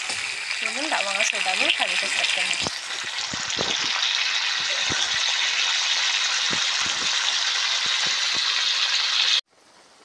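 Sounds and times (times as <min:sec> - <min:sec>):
food sizzling in hot oil: 0:00.0 - 0:09.5.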